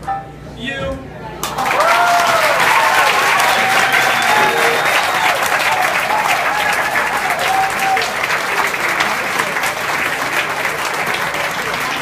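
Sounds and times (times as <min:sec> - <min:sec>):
audience clapping: 0:01.4 - 0:12.0
cheering voices: 0:01.5 - 0:12.0.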